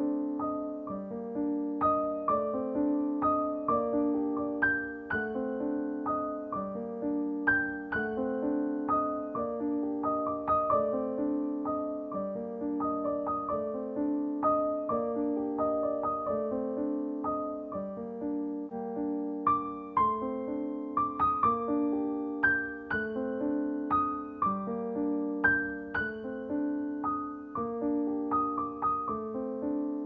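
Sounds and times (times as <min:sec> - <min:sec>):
soft piano music: 0:00.0 - 0:30.0.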